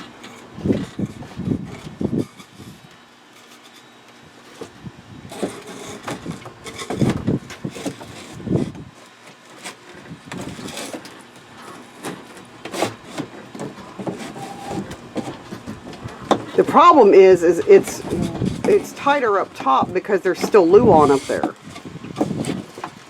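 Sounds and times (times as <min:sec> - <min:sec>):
wood rubbing and scraping: 0:00.0 - 0:23.0.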